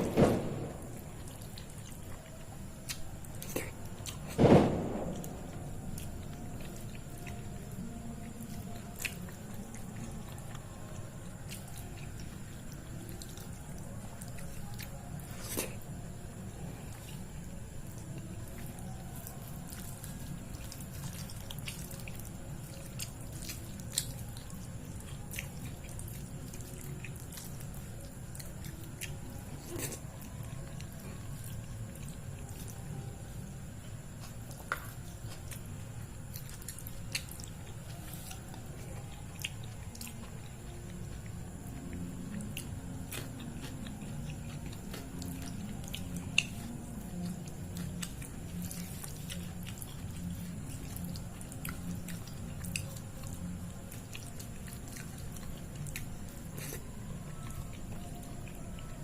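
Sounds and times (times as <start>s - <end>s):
steady low hum: 0.0s - 59.0s
wet chewing and mouth smacks: 1.0s - 4.4s, 5.2s - 33.0s, 33.8s - 59.0s.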